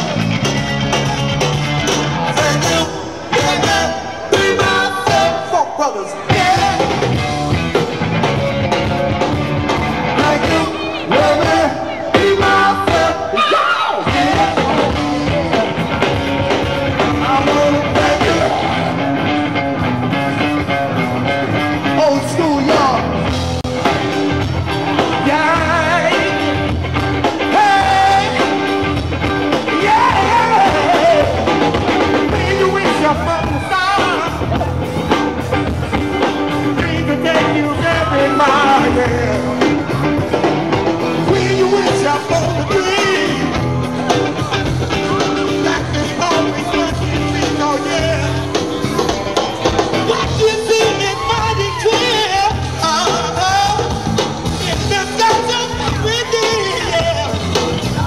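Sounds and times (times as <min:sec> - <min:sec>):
blues band playing rock and roll: 0:00.0 - 0:58.0
person singing: 0:01.9 - 0:07.4, 0:09.7 - 0:19.4, 0:21.8 - 0:58.0.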